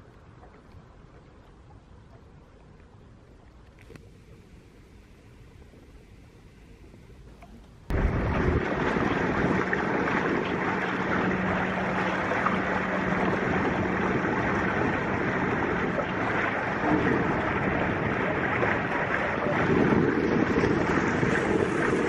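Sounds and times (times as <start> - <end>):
low engine hum: 0.0 - 22.0
wind and water rushing: 0.0 - 22.0.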